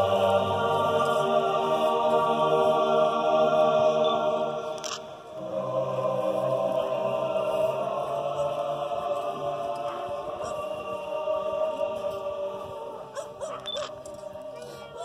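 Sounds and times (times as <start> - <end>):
choir singing sustained notes: 0.0 - 15.0.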